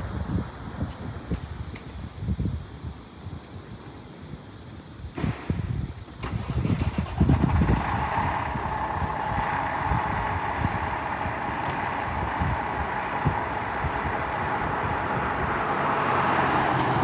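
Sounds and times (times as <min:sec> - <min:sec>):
road noise: 0:00.0 - 0:17.0
vehicle engine rumble: 0:00.0 - 0:17.0
wind buffeting microphone: 0:00.0 - 0:17.0.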